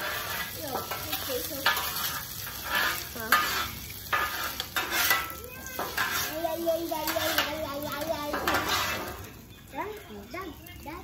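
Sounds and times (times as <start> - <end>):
spatula scraping a pan: 0.0 - 9.4
food sizzling in a hot pan: 0.0 - 11.0.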